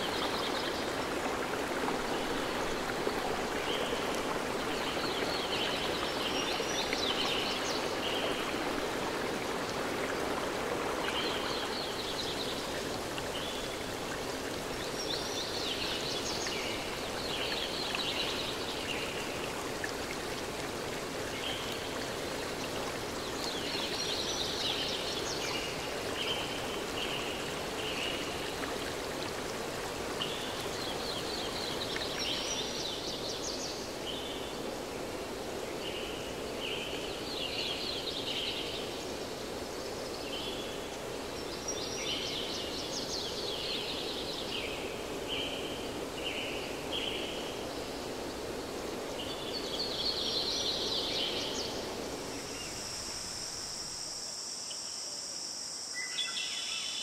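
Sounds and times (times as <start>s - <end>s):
stream water rushing: 0.0s - 54.1s.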